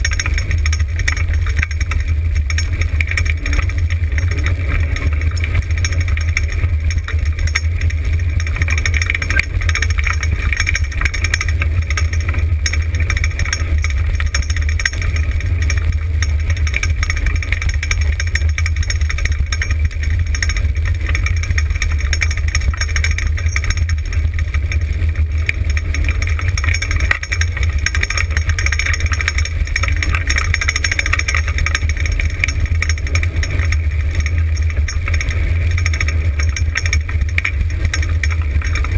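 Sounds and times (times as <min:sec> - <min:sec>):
wheels rumbling on gravel: 0:00.0 - 0:38.9.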